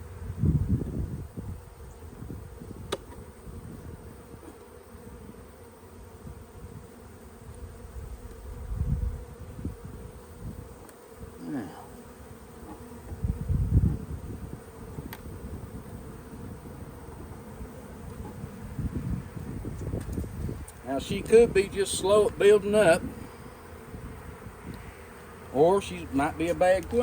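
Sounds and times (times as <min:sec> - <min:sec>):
bees buzzing: 0:00.0 - 0:27.0
falling buzz: 0:00.0 - 0:27.0.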